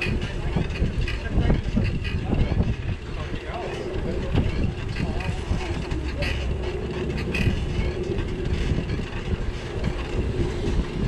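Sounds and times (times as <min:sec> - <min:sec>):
low street rumble: 0:00.0 - 0:11.0
rattling clatter: 0:00.0 - 0:11.0.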